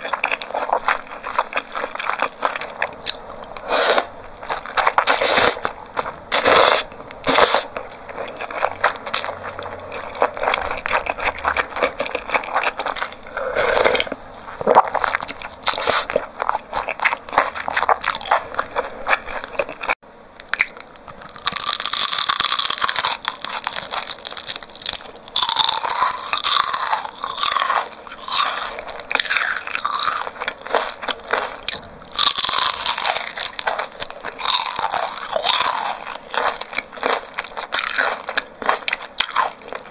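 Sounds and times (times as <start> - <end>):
wet chewing and slurping noodles: 0.0 - 20.0, 20.6 - 39.9
crunching fried chicken: 0.0 - 39.9.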